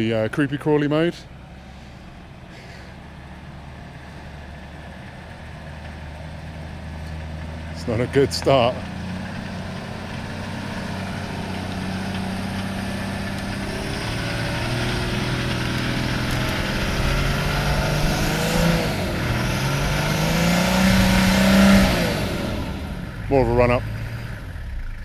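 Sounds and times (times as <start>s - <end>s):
engine labouring under load: 0.0s - 25.0s.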